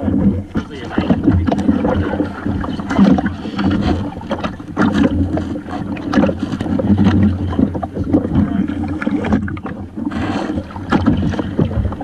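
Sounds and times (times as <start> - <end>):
wind and water hum: 0.0 - 12.0.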